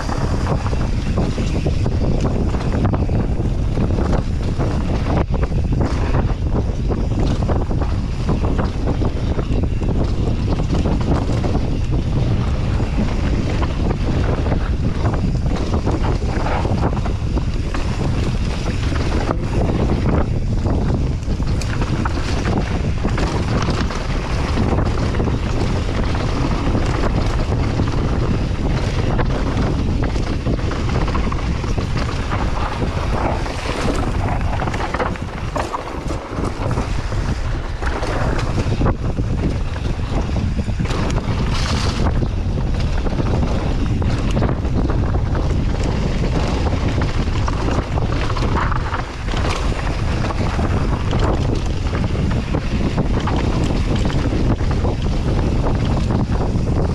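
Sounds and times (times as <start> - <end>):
bike knocks and rattles: 0.0 - 56.9
tyres rolling on dirt: 0.0 - 56.9
wind buffeting microphone: 0.0 - 56.9.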